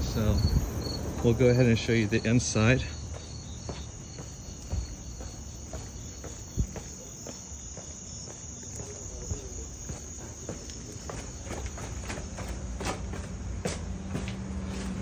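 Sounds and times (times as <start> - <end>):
crickets chirping: 0.0 - 15.0
footsteps on paving stones: 0.0 - 15.0.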